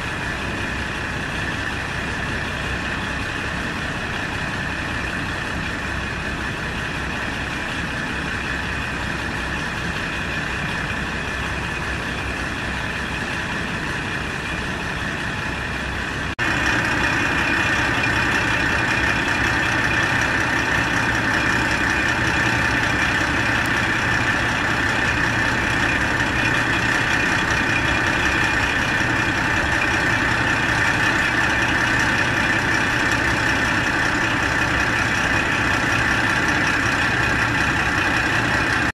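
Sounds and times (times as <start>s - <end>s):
diesel railcar engine idling: 0.0s - 38.9s.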